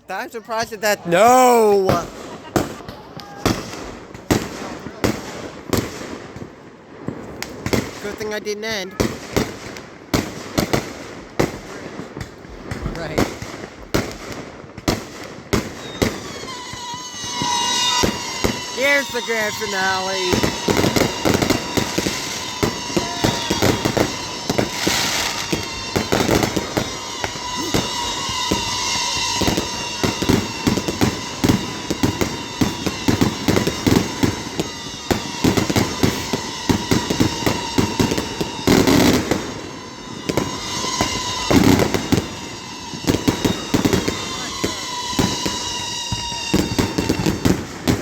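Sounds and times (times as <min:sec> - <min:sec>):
fireworks bangs and crackles: 0:00.1 - 0:48.0
heavy firework bursts: 0:01.1 - 0:48.0.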